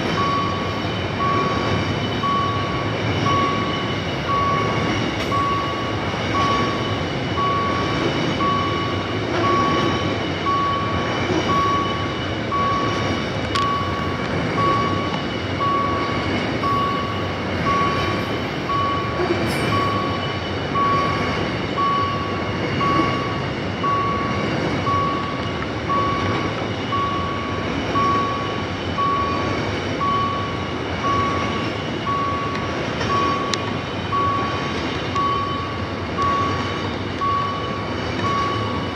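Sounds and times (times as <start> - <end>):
freight train rumbling past: 0.0 - 38.9
level crossing warning beeps: 0.0 - 38.9.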